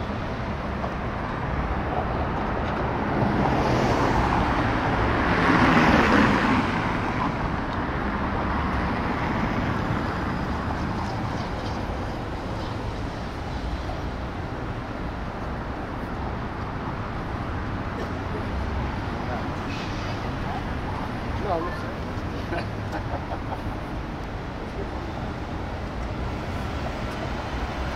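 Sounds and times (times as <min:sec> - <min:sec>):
steady traffic noise: 0:00.0 - 0:27.9.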